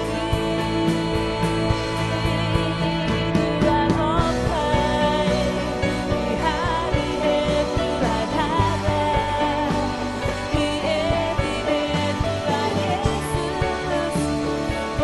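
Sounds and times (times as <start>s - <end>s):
worship song with band: 0.0s - 15.0s.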